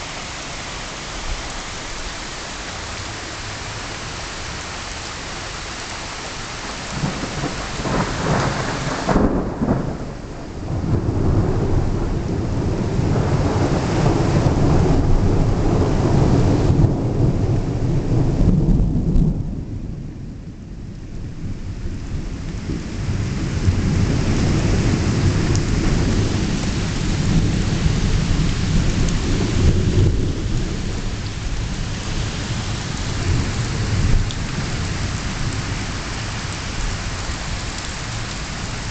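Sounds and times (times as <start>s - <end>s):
rain falling: 0.0s - 38.9s
thunder rumbling: 6.9s - 38.9s.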